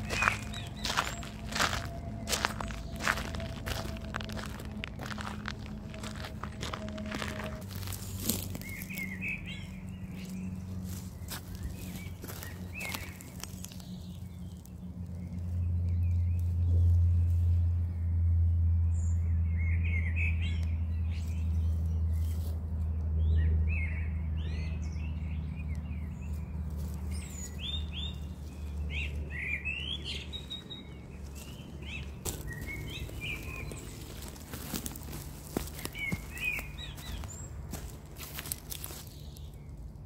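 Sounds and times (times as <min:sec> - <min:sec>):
small birds chirping: 0:00.0 - 0:18.2, 0:18.9 - 0:40.0
low steady rumble: 0:00.0 - 0:40.0.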